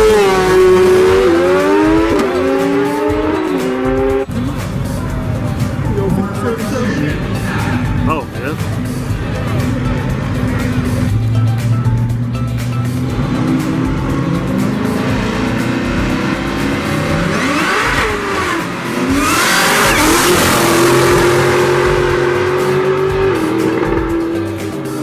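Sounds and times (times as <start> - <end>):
drag racing engines revving: 0.0 - 25.0
music: 0.0 - 25.0.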